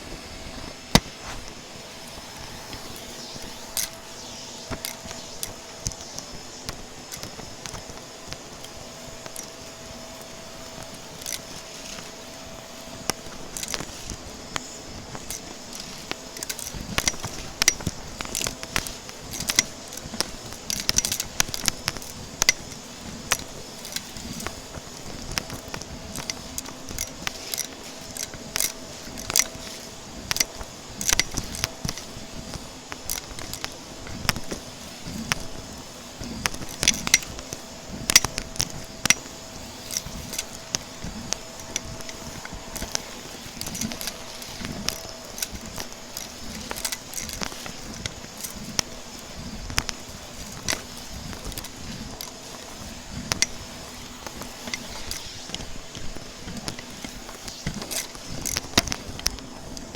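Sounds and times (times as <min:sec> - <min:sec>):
vacuum cleaner humming: 0:00.0 - 0:59.9
debris clicking in vacuum: 0:00.1 - 0:59.9.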